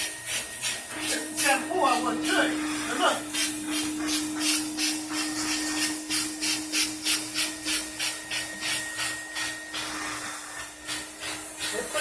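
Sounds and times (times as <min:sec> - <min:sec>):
brush scrubbing fabric: 0:00.0 - 0:12.0
vacuum motor humming: 0:00.0 - 0:12.0.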